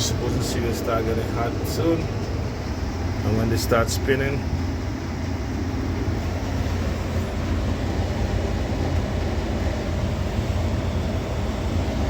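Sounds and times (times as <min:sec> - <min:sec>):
furnace fan motor humming: 0:00.0 - 0:12.0.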